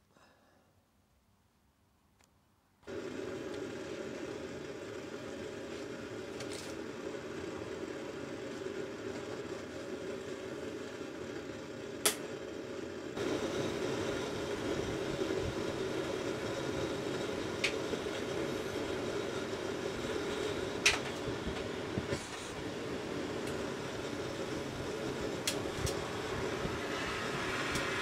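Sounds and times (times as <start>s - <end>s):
gas burner running: 2.8s - 28.0s.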